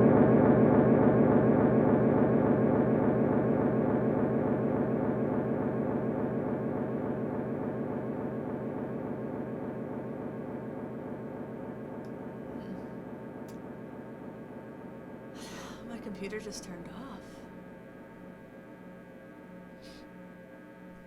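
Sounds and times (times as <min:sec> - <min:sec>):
electric guitar with droning echo: 0:00.0 - 0:21.0.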